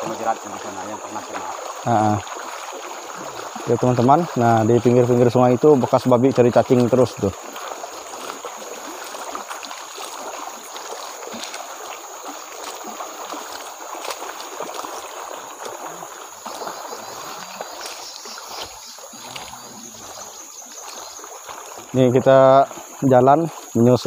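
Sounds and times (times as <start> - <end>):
flowing water rushing: 0.0 - 24.0
footsteps splashing in stream: 0.0 - 24.0.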